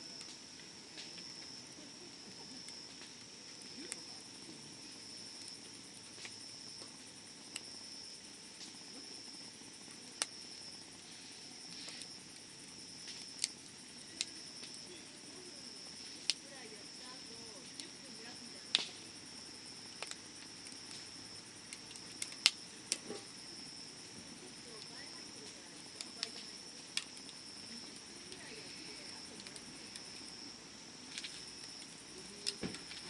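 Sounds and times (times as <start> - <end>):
campfire crackling and popping: 0.0 - 33.0
high insect trill: 0.0 - 33.0.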